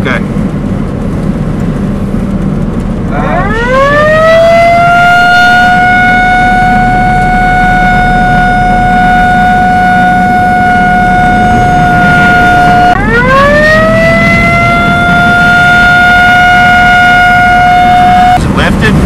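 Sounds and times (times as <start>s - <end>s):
vehicle rumble: 0.0s - 19.0s
tornado warning siren: 2.2s - 18.6s.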